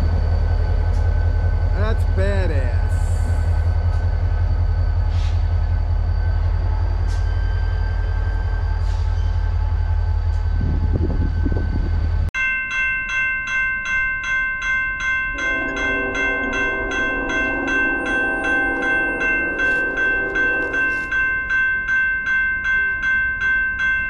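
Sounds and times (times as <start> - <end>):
train rumbling past: 0.0 - 12.3, 15.3 - 22.8
railroad crossing bell ringing: 0.0 - 24.0.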